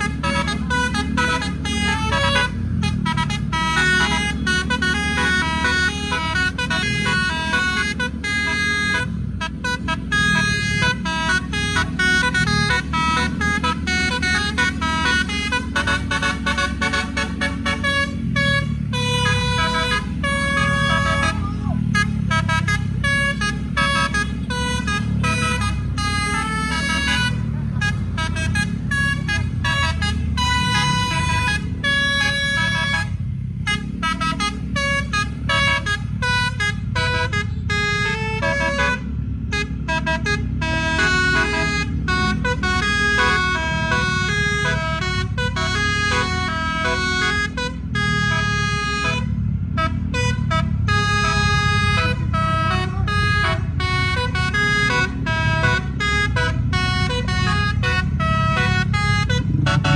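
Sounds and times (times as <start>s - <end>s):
musical air horn tune: 0.0s - 59.9s.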